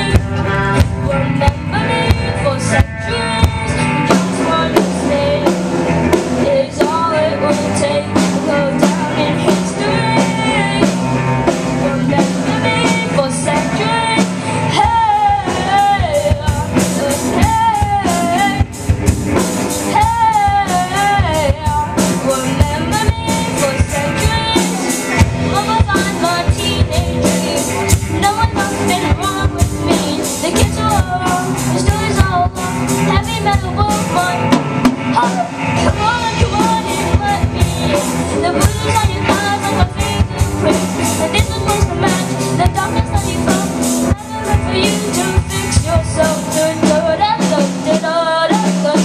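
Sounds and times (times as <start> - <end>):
drum kit: 0.0 - 49.0
electric guitars and bass: 0.0 - 49.0
person singing: 0.0 - 49.0.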